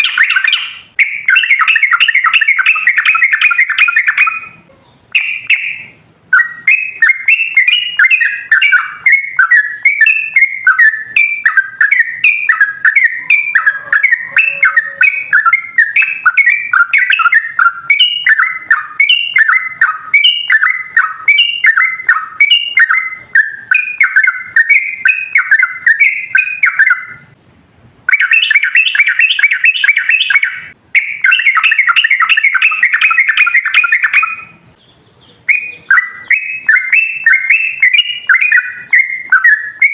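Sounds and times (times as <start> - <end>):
bird warbling song: 0.0 - 27.4, 28.0 - 39.9.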